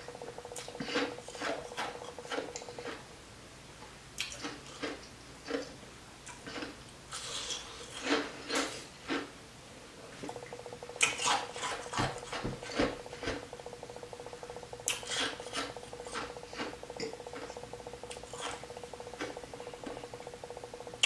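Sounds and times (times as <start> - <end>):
faint buzzing hum: 0.0 - 21.0.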